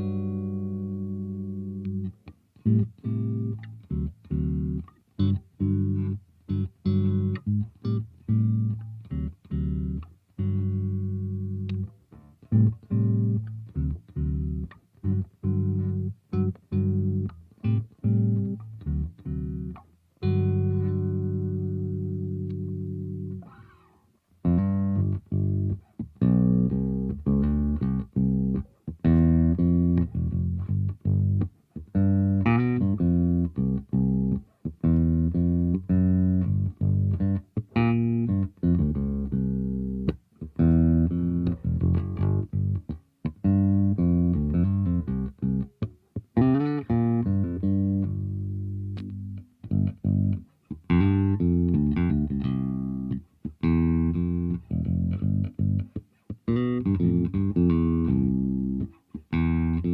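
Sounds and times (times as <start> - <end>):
electric bass guitar plucked: 0.0 - 59.9.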